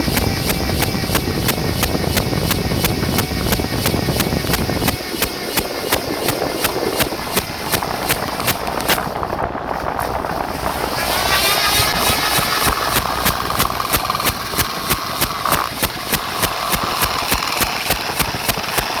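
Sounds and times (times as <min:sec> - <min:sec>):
motor whining: 0:00.0 - 0:19.0
regular ticking: 0:00.0 - 0:19.0.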